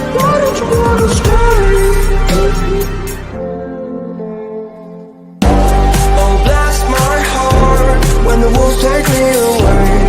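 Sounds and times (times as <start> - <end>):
pop backing music: 0.0 - 10.0.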